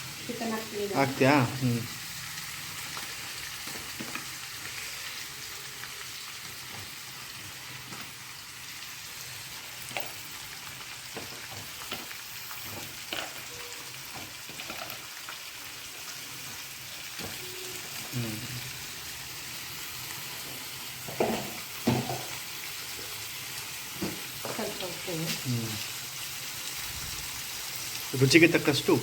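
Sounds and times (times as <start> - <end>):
oil sizzling in a pot: 0.0 - 29.0.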